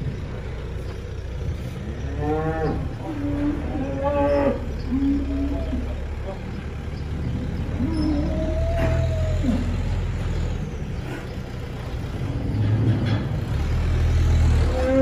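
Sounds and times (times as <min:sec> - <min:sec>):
cows mooing: 0:01.6 - 0:11.4, 0:12.2 - 0:15.0.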